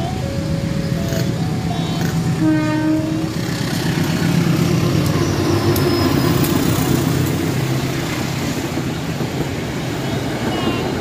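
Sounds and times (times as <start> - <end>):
train rumbling on rails: 0.0 - 11.0
wheels clicking over rail joints: 0.4 - 11.0.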